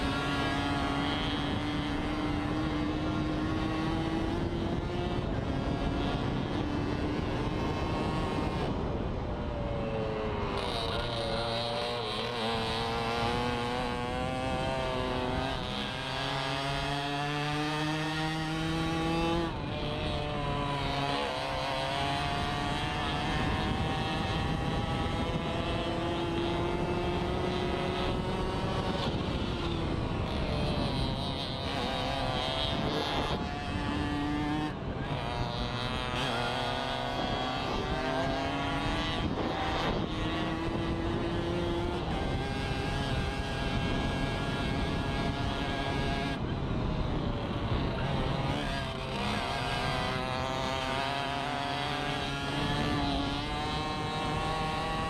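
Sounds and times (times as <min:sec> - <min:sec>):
moped engine revving: 0:00.0 - 0:08.8, 0:09.6 - 0:55.0
wind and road noise: 0:00.0 - 0:55.0.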